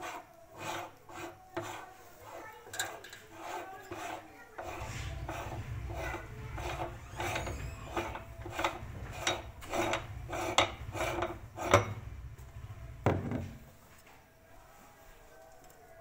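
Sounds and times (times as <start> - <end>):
hand-cranked meat grinder grinding: 0.0 - 13.1.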